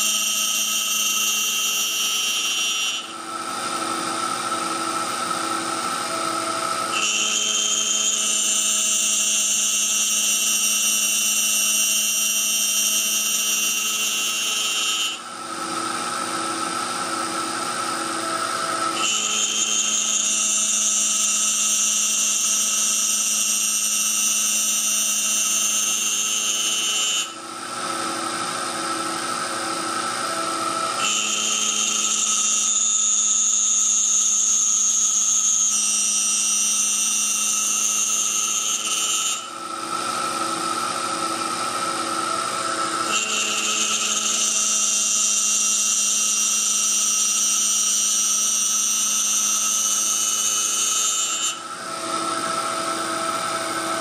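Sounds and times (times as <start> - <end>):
mill spindle high whine: 0.0 - 54.0.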